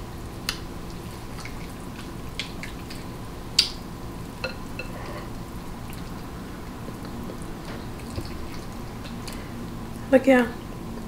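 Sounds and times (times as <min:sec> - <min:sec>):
wet chewing: 0:00.5 - 0:03.9, 0:04.5 - 0:10.0.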